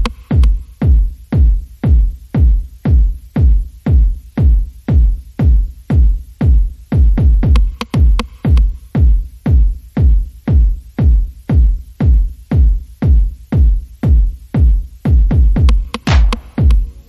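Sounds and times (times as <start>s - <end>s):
deep kick drum: 0.0s - 17.0s
electronic music: 0.0s - 17.0s.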